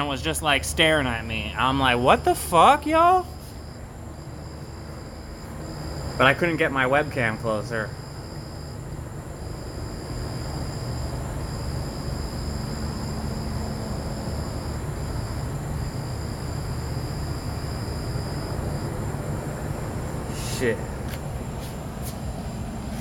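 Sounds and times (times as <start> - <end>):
crickets trilling: 0.0 - 23.0
helicopter rotor rumble: 0.0 - 23.0.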